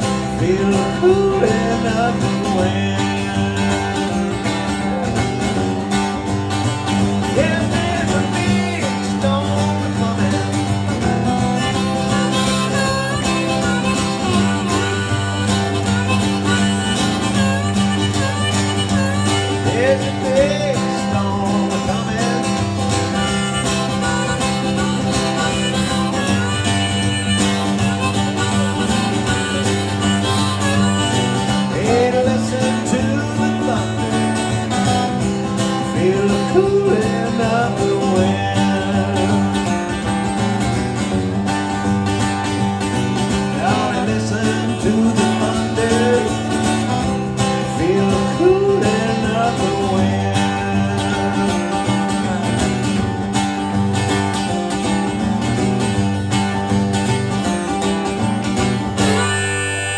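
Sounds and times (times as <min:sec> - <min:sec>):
country band playing: 0:00.0 - 0:59.9
lead guitar bending notes: 0:00.0 - 0:59.9.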